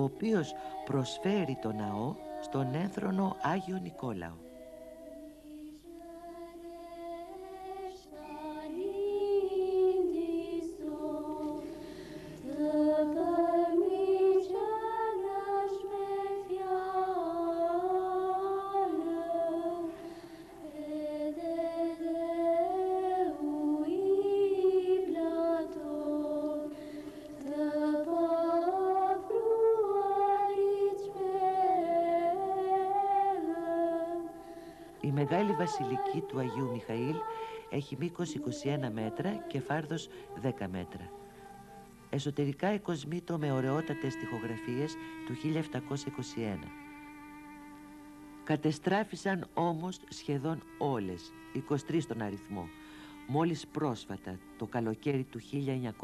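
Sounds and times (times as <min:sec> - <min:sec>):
person singing unaccompanied chant: 0:00.0 - 0:56.0.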